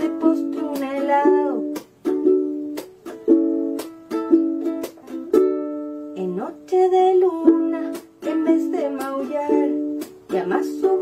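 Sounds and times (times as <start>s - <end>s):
ukulele strumming chords: 0.0s - 11.0s.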